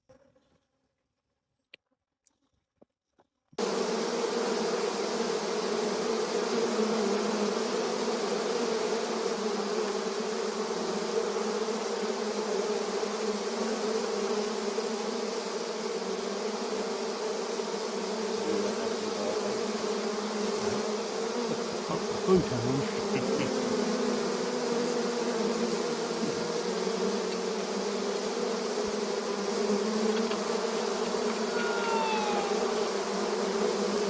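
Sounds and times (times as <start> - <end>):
honeybees buzzing: 3.6 - 34.0.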